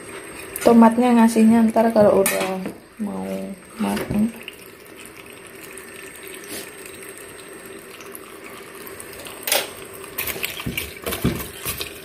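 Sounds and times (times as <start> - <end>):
tap water running into pot: 0.0 - 12.0.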